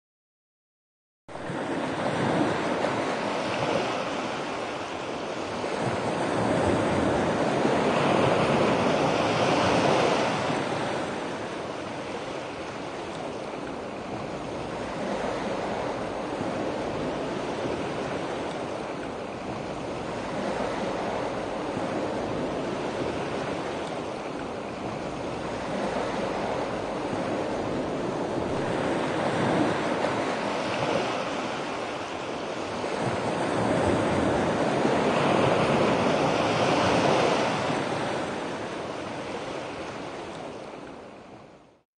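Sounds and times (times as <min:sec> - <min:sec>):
ocean waves breaking on beach: 0:01.3 - 0:41.8.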